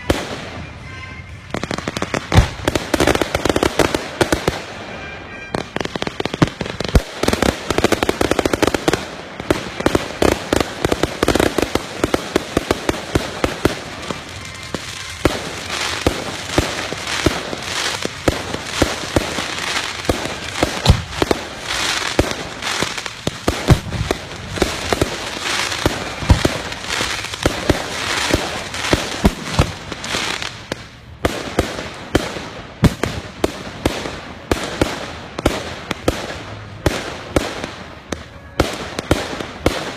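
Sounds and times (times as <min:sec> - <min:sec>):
fireworks bursting and banging: 0:00.0 - 0:39.9.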